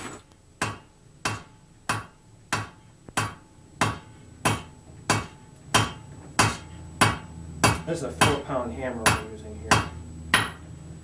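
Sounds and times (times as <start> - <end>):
hammer striking metal on anvil: 0.6 - 10.6.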